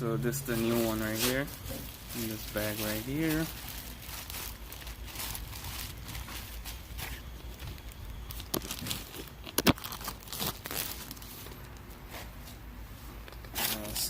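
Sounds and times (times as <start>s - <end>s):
plastic bag crinkling: 0.4s - 11.8s.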